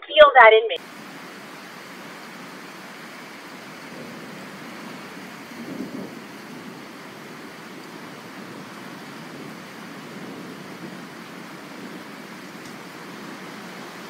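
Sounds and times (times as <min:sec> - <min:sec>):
rain hissing: 0:00.8 - 0:14.0
thunder rumble: 0:00.8 - 0:14.0.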